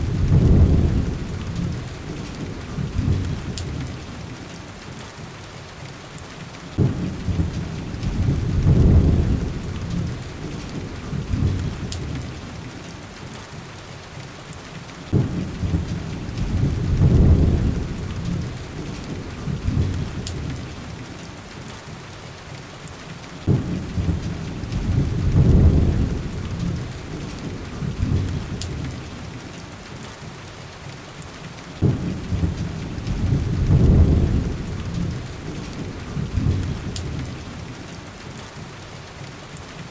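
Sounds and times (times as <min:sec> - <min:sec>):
heavy rain on window glass: 0:00.0 - 0:39.9.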